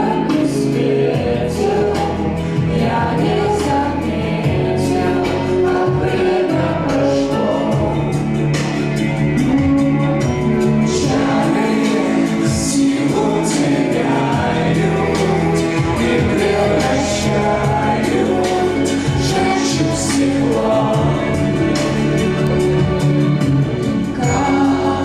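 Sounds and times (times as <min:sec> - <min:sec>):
choir singing song: 0:00.0 - 0:25.0.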